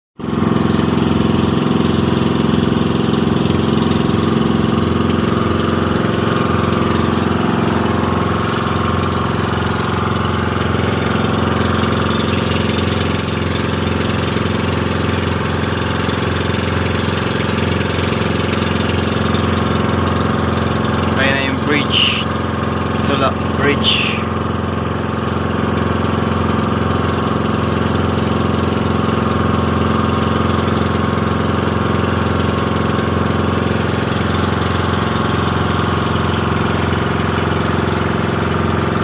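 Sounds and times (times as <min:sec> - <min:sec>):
boat engine running: 0:00.2 - 0:39.0.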